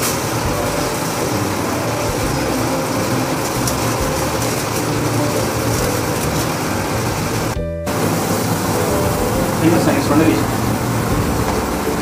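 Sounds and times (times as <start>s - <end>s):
mechanical hum with hiss: 0.0s - 12.0s.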